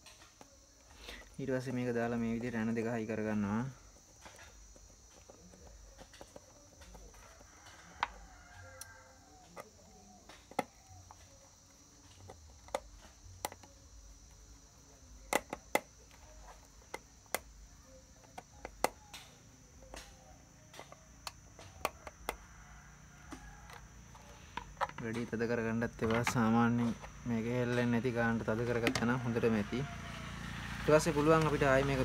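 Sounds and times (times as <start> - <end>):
low background noise: 0.0 - 32.0.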